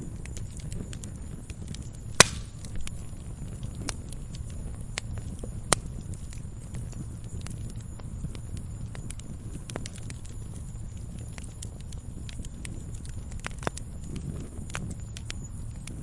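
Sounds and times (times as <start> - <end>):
loud pops from fire: 0.0 - 16.0
wood fire crackling: 0.0 - 16.0.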